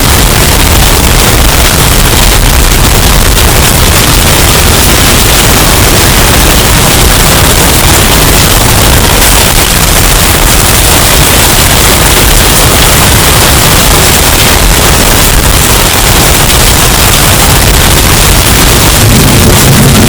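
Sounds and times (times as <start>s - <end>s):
distorted hurricane wind: 0.0s - 20.0s.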